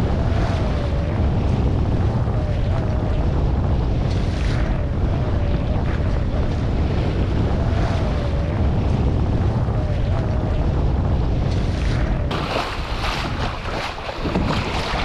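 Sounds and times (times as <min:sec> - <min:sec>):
sea rushing against hull: 0:00.0 - 0:15.0
wind buffeting microphone: 0:00.0 - 0:15.0.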